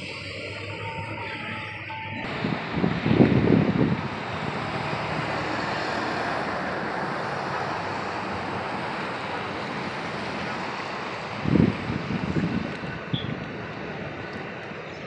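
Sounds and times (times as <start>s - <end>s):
rushing noise of wet street: 0.0s - 15.0s
train passing: 0.0s - 15.0s.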